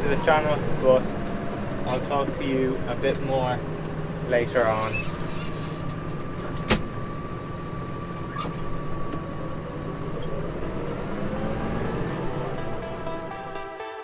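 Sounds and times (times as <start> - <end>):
tractor engine running: 0.0 - 13.6.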